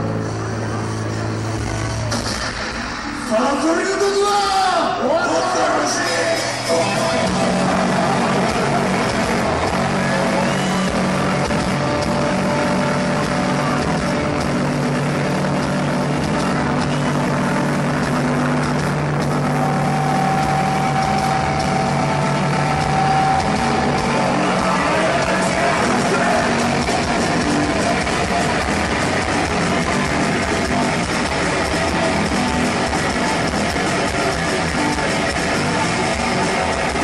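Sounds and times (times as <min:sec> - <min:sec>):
heavy metal band playing live: 0:05.6 - 0:37.0.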